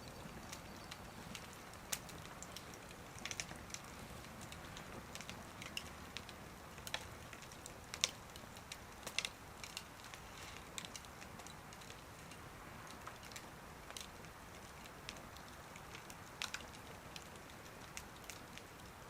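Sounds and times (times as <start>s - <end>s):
low steady hiss: 0.0s - 19.0s
wood fire crackling and popping: 0.0s - 19.0s.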